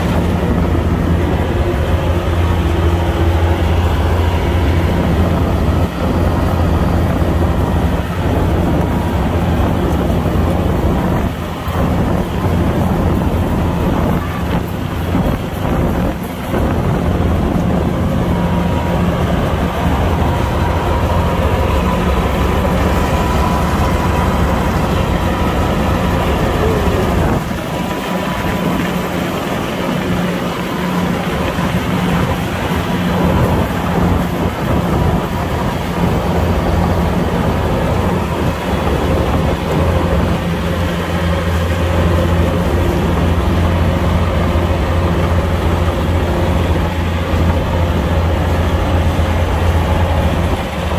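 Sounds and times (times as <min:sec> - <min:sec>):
combine harvester engine humming: 0:00.0 - 0:50.9.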